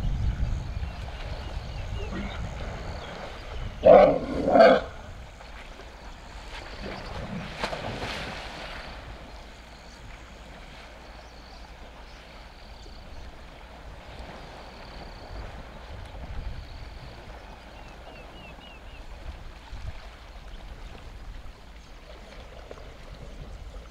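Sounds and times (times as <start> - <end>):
elephants splashing in water: 0.8 - 23.9.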